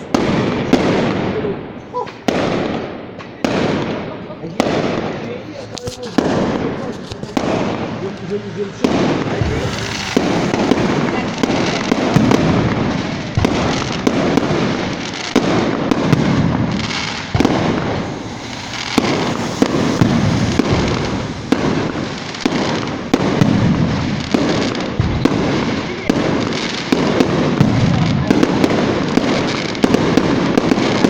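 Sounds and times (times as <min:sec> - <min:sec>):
fireworks rumble: 0:00.0 - 0:31.0
fireworks sharp bangs: 0:00.0 - 0:31.0.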